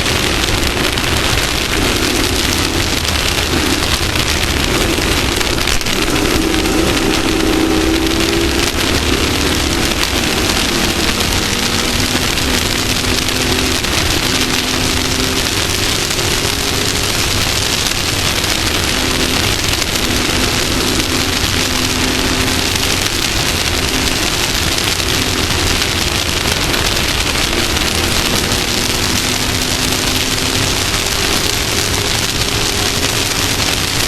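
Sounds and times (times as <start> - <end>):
race vehicle engine revving: 0.0 - 34.0
rough terrain noise: 0.0 - 34.0.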